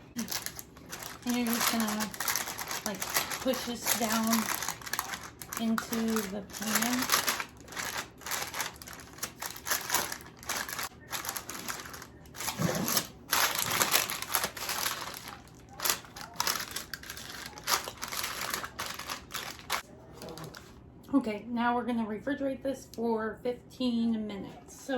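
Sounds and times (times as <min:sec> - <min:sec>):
parchment paper crinkling: 0:00.1 - 0:20.8.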